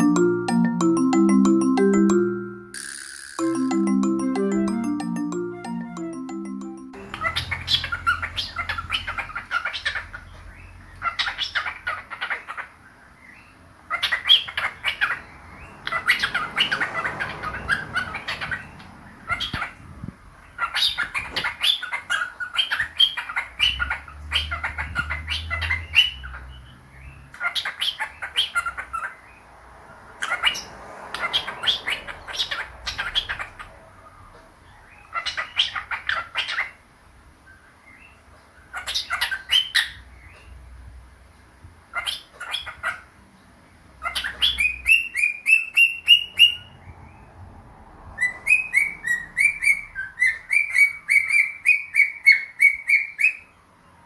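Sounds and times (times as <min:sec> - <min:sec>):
birds chirping and chattering: 0:07.0 - 0:54.0.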